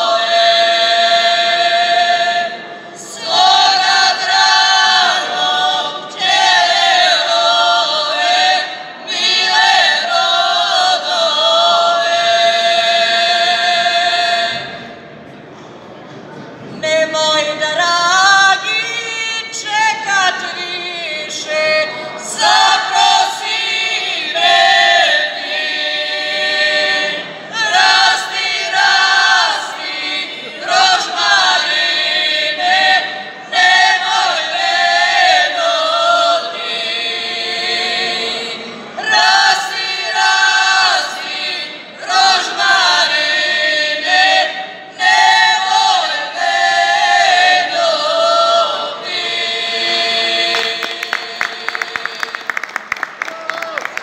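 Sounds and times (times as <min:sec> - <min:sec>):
women singing a cappella: 0:00.0 - 0:15.0, 0:16.8 - 0:52.8.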